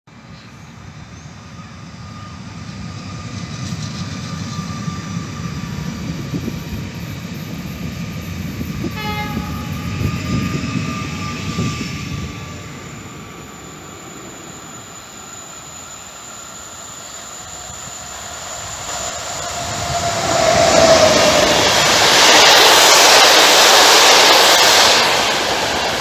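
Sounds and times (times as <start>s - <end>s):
train rumbling past: 0.2s - 26.0s
train motor whine: 1.5s - 26.0s.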